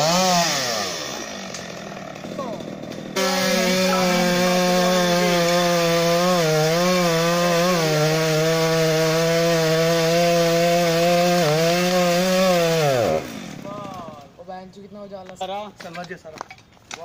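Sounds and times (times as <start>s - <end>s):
chainsaw cutting tree trunk: 0.0s - 14.0s.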